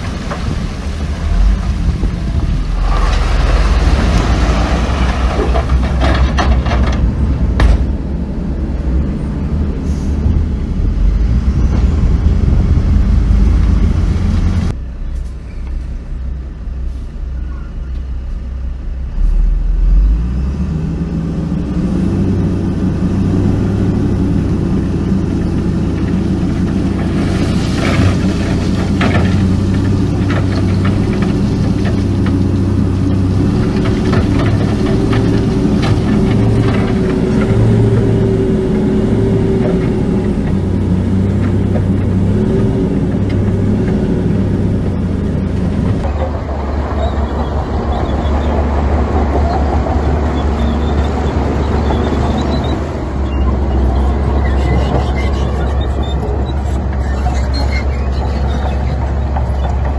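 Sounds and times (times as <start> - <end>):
heavy diesel engines rumbling: 0.0 - 59.9.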